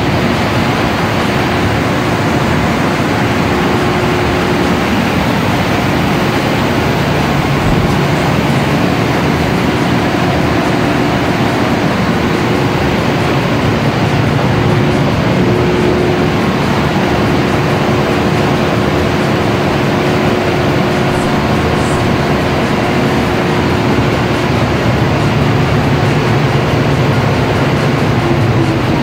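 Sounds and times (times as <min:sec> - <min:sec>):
faint steady hum: 0:00.0 - 0:29.0
generator engine droning: 0:00.0 - 0:29.0.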